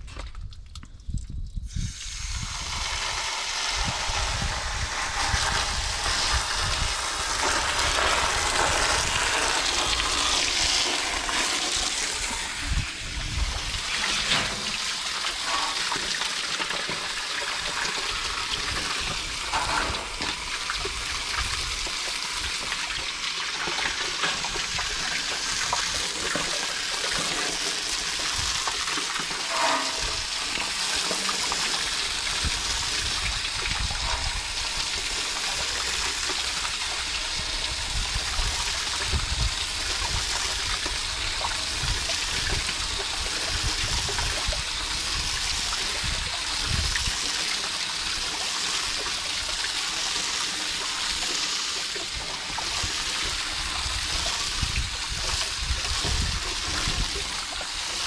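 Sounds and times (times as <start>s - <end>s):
hose spraying water on metal fins: 1.7s - 58.0s.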